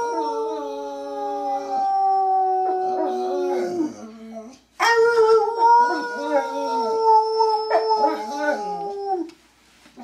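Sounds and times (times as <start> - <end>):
dog howling: 0.0 - 9.3.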